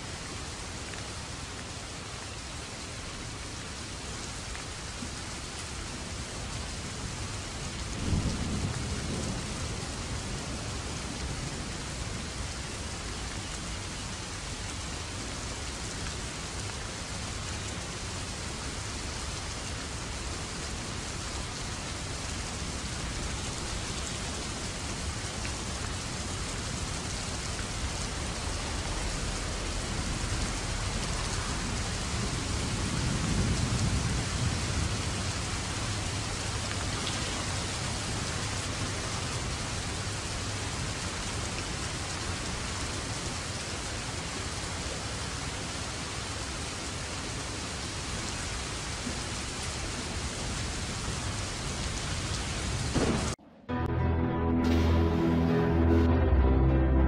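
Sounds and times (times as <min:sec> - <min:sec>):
rain-like noise: 0:00.0 - 0:53.4.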